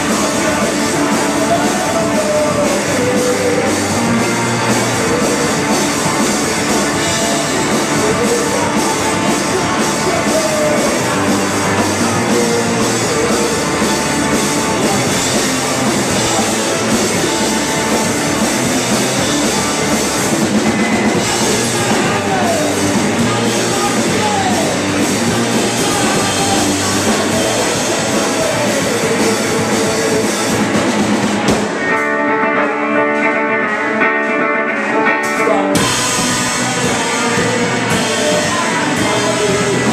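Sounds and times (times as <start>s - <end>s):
drum kit with cymbals: 0.0s - 32.2s, 35.2s - 39.9s
electric bass: 0.0s - 39.9s
electric guitars: 0.0s - 39.9s.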